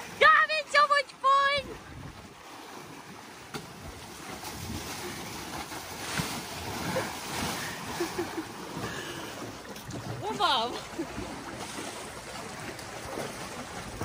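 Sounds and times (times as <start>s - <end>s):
elephant splashing through water: 1.4s - 14.0s.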